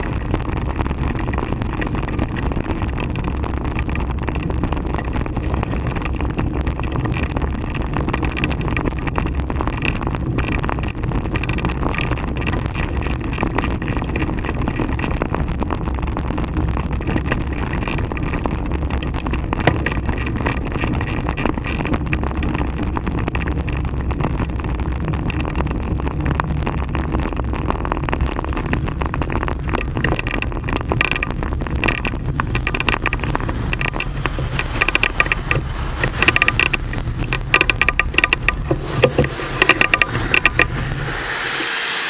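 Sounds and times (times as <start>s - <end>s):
frame and cables rattling: 0.0s - 41.2s
wind buffeting microphone: 0.0s - 41.9s
road rumble: 0.0s - 42.0s.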